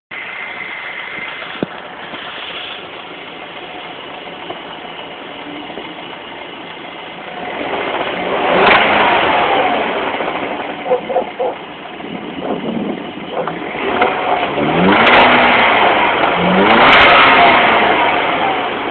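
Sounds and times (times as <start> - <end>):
car engine idling with knock: 0.1 - 18.9.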